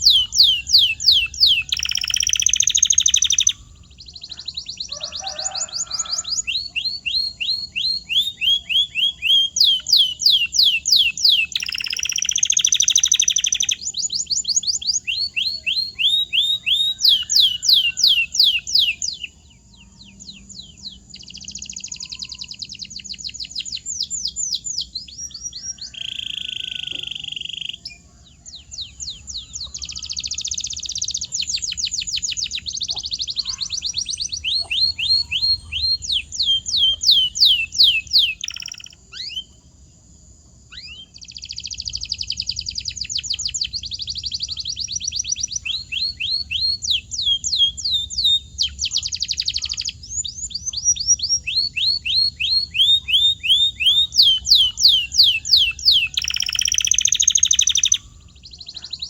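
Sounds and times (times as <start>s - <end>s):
canary singing: 0.0s - 39.9s, 40.7s - 59.0s.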